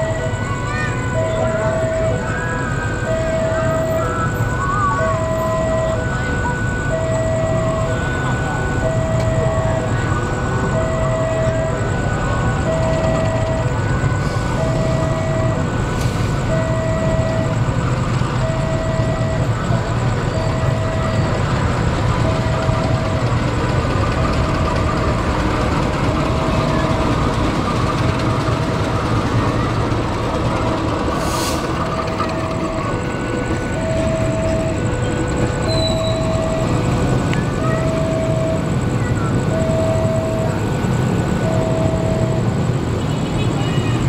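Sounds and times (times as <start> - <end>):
diesel locomotive drone: 0.0 - 44.0.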